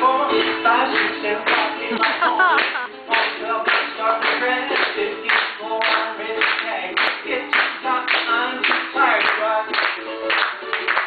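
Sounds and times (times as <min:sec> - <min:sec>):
man singing: 0:00.0 - 0:10.3
ukulele strumming: 0:00.0 - 0:11.0.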